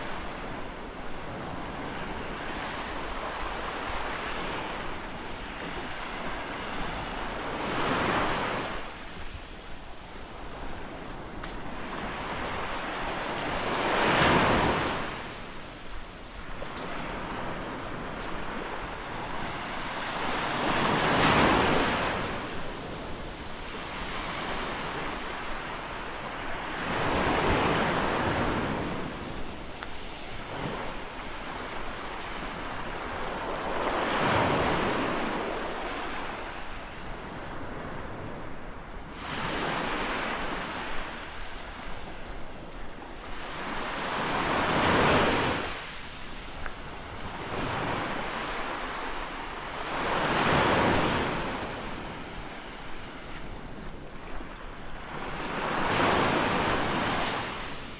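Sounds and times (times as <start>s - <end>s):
waves breaking on sandy beach: 0.0s - 57.9s.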